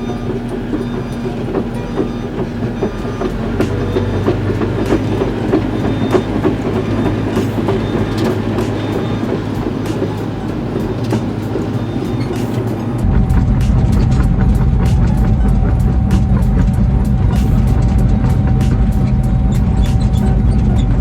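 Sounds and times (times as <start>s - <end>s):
excavator engine hum: 0.0s - 21.0s.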